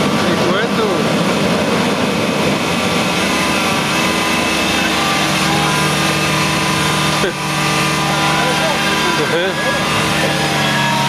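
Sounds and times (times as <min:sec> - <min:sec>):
harvester engine droning: 0:00.0 - 0:11.0
low hum: 0:00.0 - 0:11.0.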